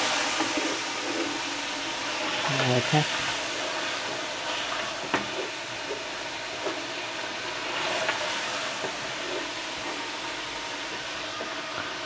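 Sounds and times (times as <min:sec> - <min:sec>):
spatula stirring: 0:00.0 - 0:11.7
sauce sizzling in a pot: 0:00.0 - 0:12.0.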